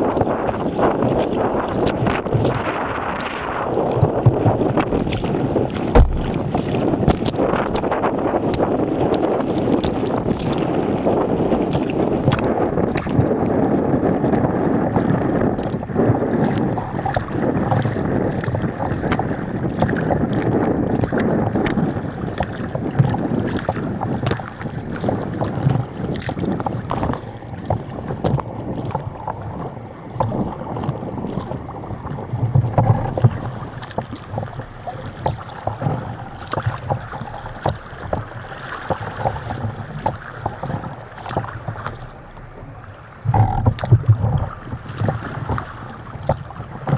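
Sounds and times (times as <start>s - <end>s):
water splashing against kayak: 0.0s - 46.9s
wind on microphone: 0.0s - 46.9s.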